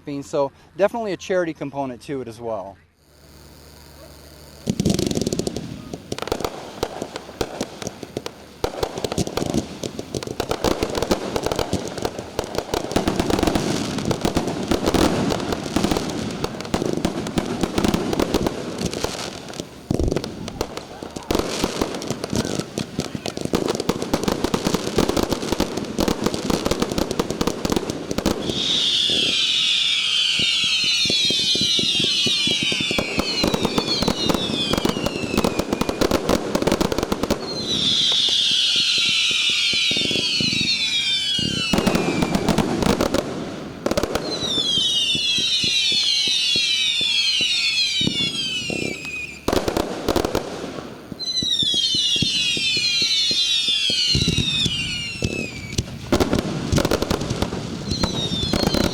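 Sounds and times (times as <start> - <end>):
descending fireworks whistles: 2.9 - 58.9
fireworks crackling and banging: 3.0 - 58.9.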